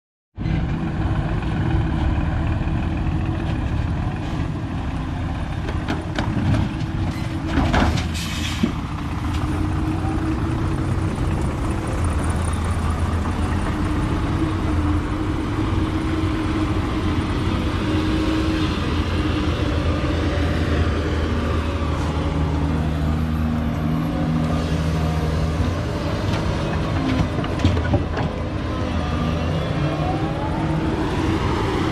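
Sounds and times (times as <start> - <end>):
heavy diesel engines running: 0.4 - 31.9.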